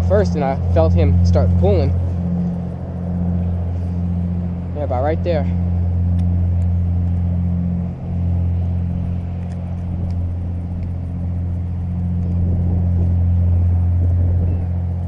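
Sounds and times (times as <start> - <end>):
engine droning hum: 0.0 - 15.0.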